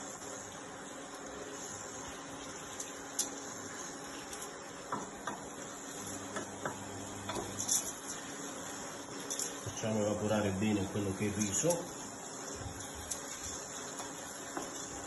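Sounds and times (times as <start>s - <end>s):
rice sizzling in a pot: 0.0s - 15.0s.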